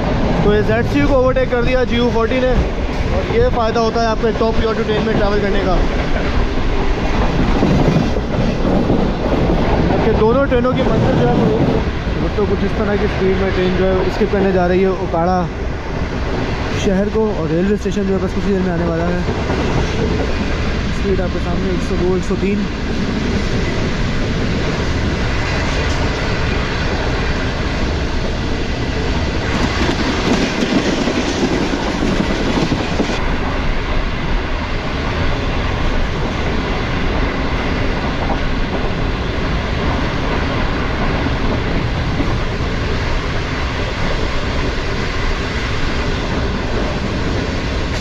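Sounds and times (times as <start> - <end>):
train wheels rumbling on track: 0.0 - 48.0.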